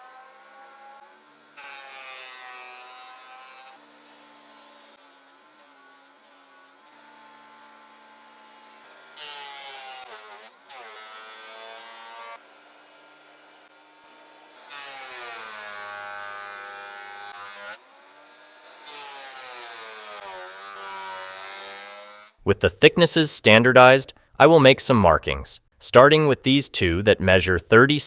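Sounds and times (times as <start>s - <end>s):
planer cutting boards: 0.0s - 22.6s.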